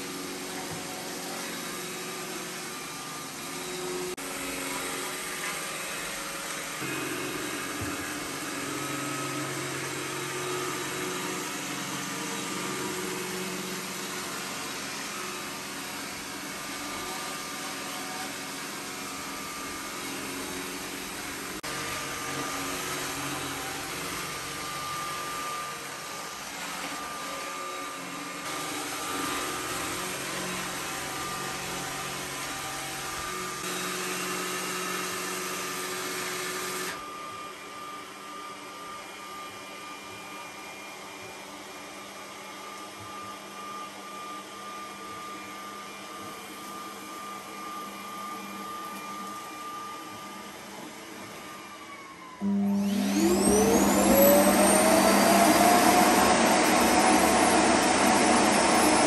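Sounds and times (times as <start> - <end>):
robot vacuum humming: 0.0 - 59.0.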